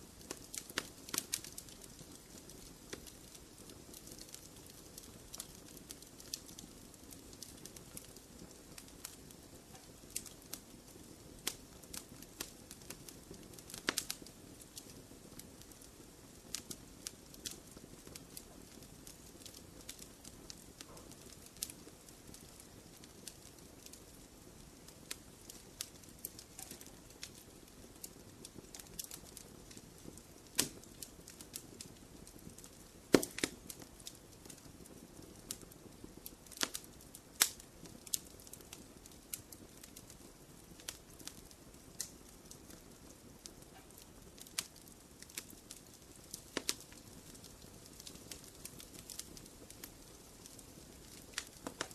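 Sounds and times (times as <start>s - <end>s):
fireplace fire crackling and popping: 0.0s - 51.9s
soft low hiss: 0.0s - 51.9s.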